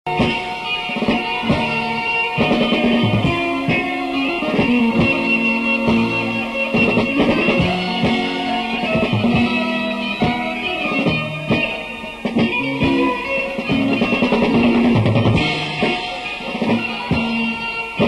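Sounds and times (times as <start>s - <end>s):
live band instrumental: 0.1s - 18.0s
plucked string instruments: 0.1s - 18.0s.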